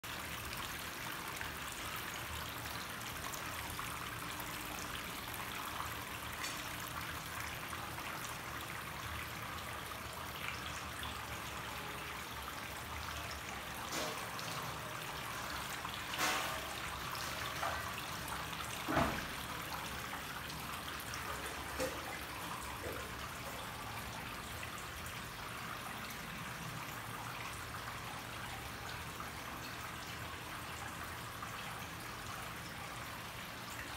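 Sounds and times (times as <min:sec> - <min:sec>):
water trickling in a fountain: 0:00.0 - 0:33.9.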